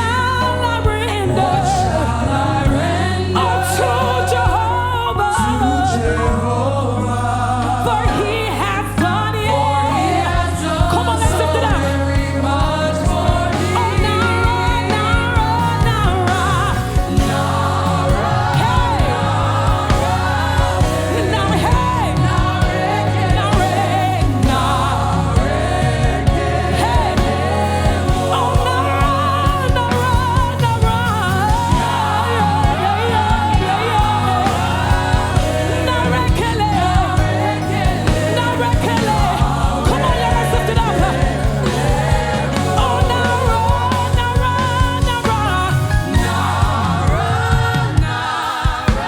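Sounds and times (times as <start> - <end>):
band with bass and drums: 0.0 - 49.0
voices singing gospel: 0.0 - 49.0.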